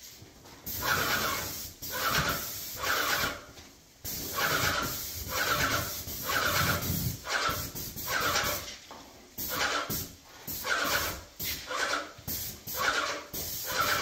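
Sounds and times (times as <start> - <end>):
paint spray gun hissing: 0.7 - 3.4, 4.0 - 8.7, 9.4 - 14.0.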